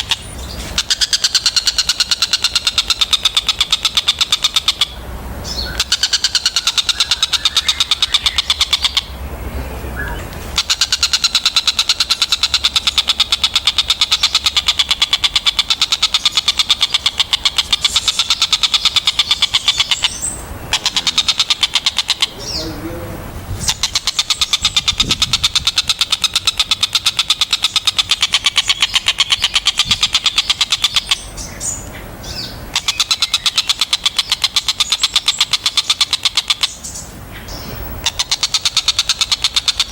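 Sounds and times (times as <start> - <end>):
kingfisher calling: 0.0 - 39.9.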